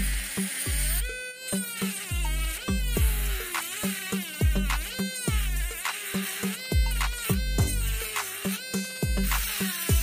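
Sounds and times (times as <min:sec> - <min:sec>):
electronic music with deep drums: 0:00.7 - 0:01.0, 0:02.1 - 0:10.0.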